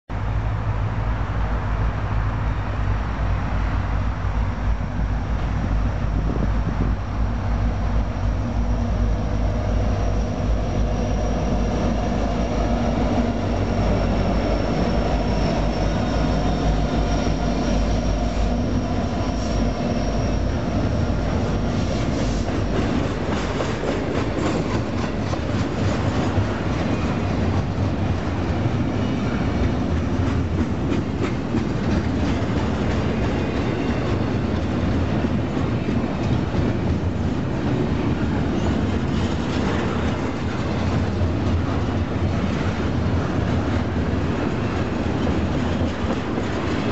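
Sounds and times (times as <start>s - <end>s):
diesel locomotive rumble: 0.1s - 46.9s.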